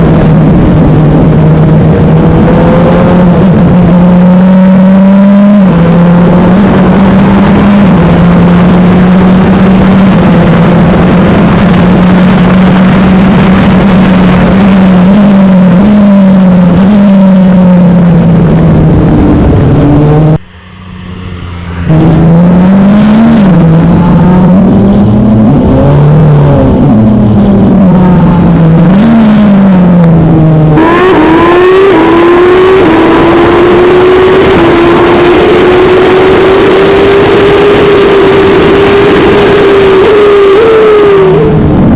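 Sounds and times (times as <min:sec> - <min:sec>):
wind noise: 0:00.0 - 0:20.5, 0:21.8 - 0:41.9
race car engine at high revs: 0:00.0 - 0:41.9.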